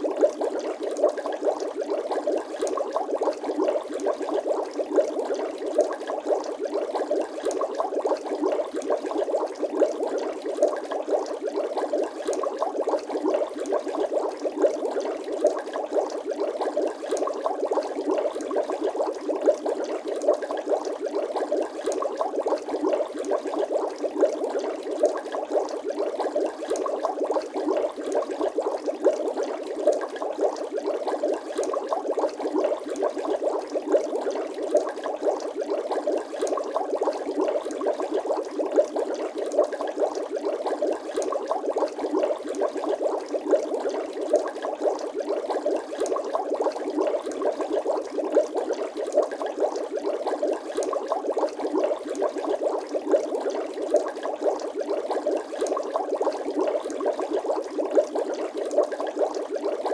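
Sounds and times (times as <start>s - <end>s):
water bubbling and gurgling: 0.0s - 59.9s.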